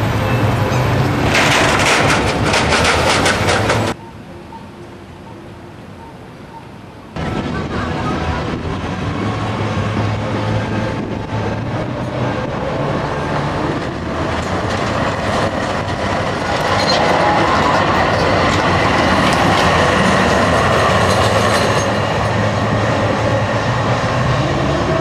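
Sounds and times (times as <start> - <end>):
tram wheels rumbling over rails: 0.0 - 6.2, 7.1 - 25.0.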